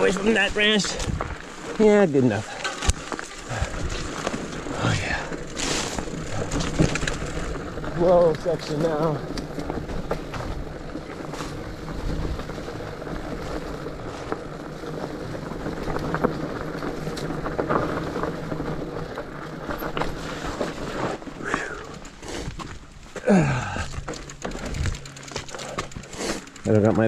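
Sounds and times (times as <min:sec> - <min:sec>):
bike rattling over bumps: 0:00.0 - 0:27.0
bike tyres rumbling on dirt: 0:00.0 - 0:27.0.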